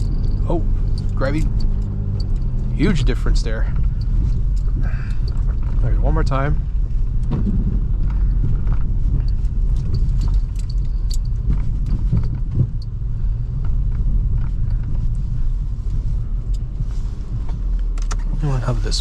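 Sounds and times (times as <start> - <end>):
car engine rumble inside cabin: 0.0 - 19.0
tyres on snowy road: 0.0 - 19.0.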